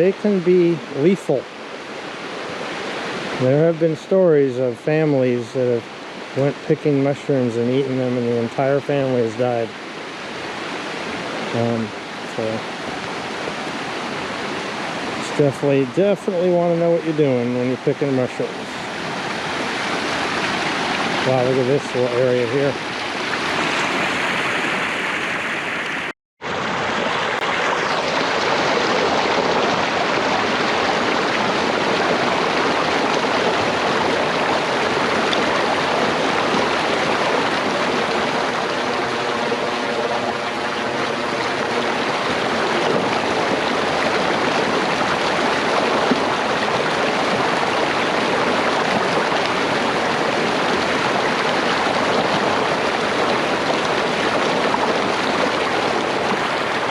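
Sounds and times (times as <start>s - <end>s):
creek rushing and splashing: 0.0s - 56.9s.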